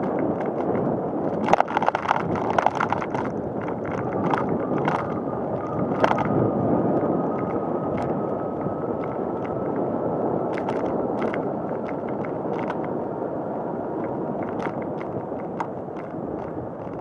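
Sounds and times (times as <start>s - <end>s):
bicycle clicks and rattles: 0.0s - 6.4s, 7.0s - 9.8s, 10.4s - 13.0s, 14.0s - 17.0s
rolling tyre noise: 0.0s - 17.0s
wind rushing: 0.0s - 17.0s.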